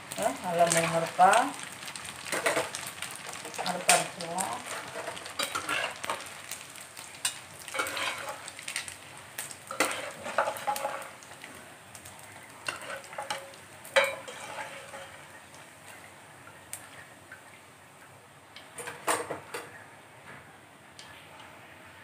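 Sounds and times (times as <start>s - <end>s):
oil sizzling: 0.0s - 19.6s.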